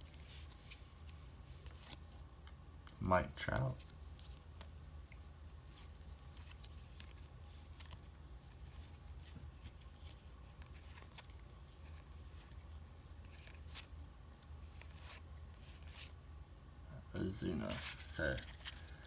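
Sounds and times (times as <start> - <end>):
cards flipped by hand: 0.0 - 16.2, 17.6 - 19.0
steady low hum: 0.0 - 19.0.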